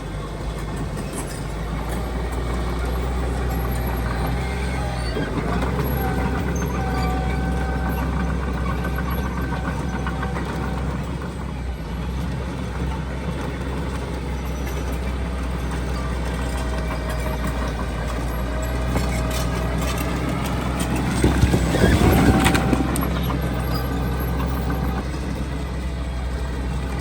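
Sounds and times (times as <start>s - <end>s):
diesel machinery engine drone: 0.0s - 27.0s.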